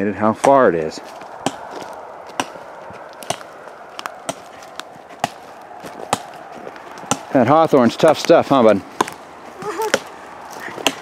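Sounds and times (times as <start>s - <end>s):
hatchet chopping wood: 0.4s - 11.0s.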